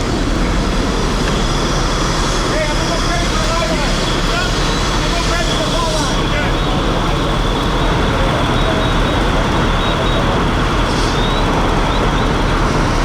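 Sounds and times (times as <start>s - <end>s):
fire engines rumbling: 0.0s - 13.0s.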